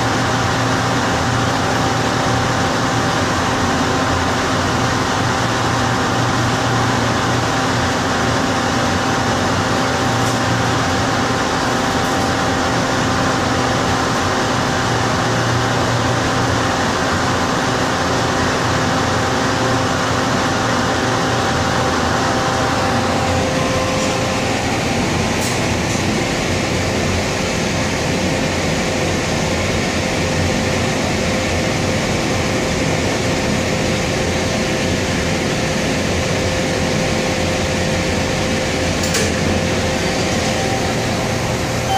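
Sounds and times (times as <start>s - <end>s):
loud ventilation fan running: 0.0s - 41.9s
steady hum tones: 0.0s - 41.9s.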